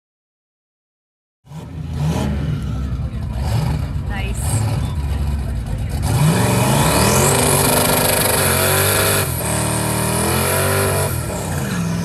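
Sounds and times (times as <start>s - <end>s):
car engine revving hard: 1.5s - 12.0s.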